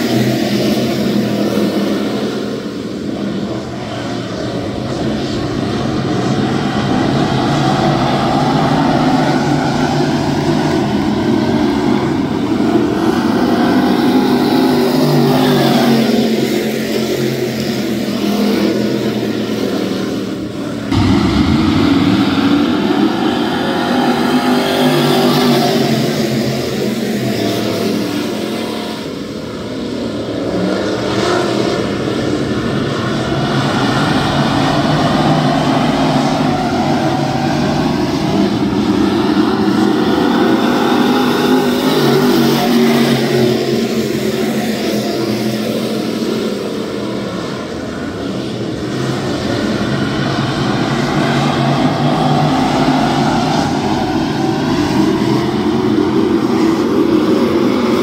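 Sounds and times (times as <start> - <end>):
race car engines roaring: 0.0 - 58.0.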